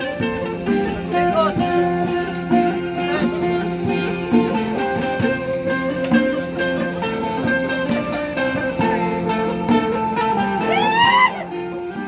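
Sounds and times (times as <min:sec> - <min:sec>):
plucked lute melody: 0:00.0 - 0:12.0
stringed instrument: 0:00.0 - 0:12.0.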